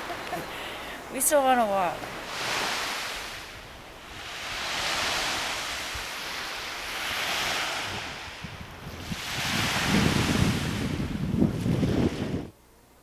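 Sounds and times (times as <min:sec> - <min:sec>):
waves washing onto shore: 0:00.0 - 0:12.4
high wind: 0:00.0 - 0:12.6.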